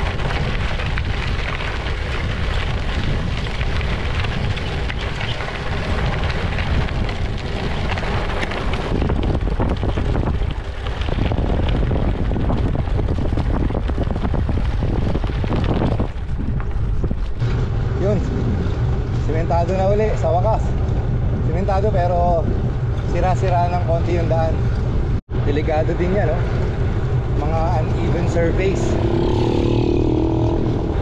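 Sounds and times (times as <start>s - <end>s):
bike tyres rolling on gravel: 0.0s - 31.0s
wind rumbling on microphone: 0.0s - 31.0s.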